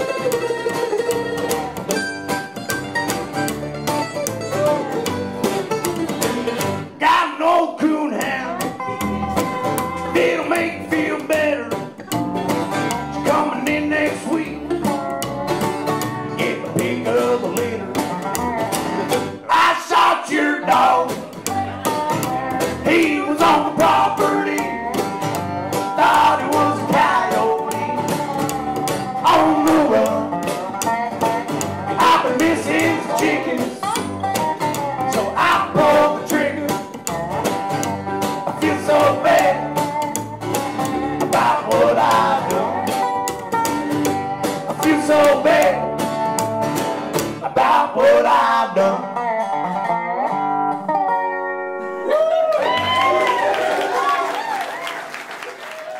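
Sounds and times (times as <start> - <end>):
picked lead melody: 0.0 - 7.0, 7.6 - 19.5, 20.2 - 53.6
plucked upright bass: 0.0 - 52.1
strummed acoustic guitars: 0.0 - 52.1.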